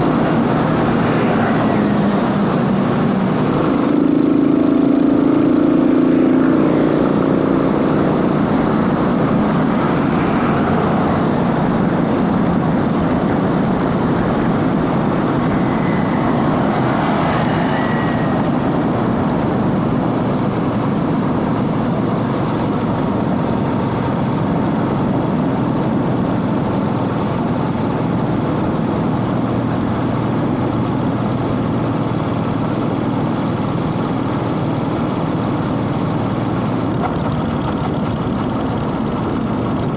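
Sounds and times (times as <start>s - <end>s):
motorcycle engine running: 0.0s - 31.8s, 36.4s - 39.9s.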